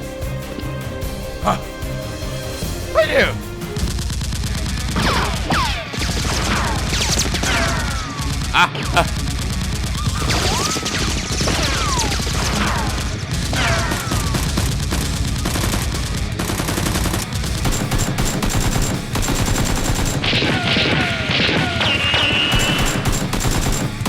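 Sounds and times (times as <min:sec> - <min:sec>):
rapid automatic gunfire: 0:03.8 - 0:24.0.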